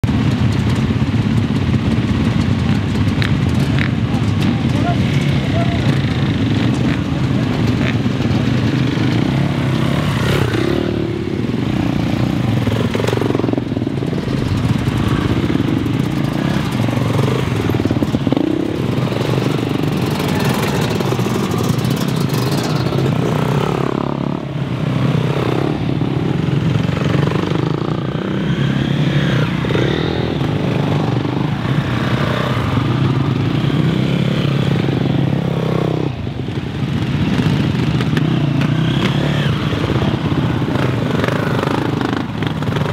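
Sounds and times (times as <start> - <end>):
motocross engines revving: 0.1 - 42.9.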